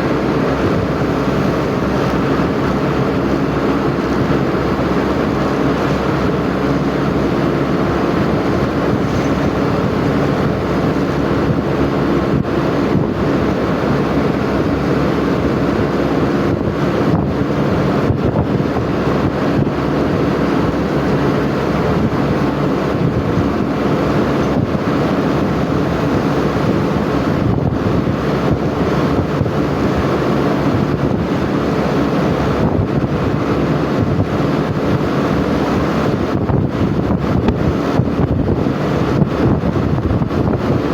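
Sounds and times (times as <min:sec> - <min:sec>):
vehicle engine running: 0:00.0 - 0:40.9
wind buffeting microphone: 0:00.0 - 0:40.9.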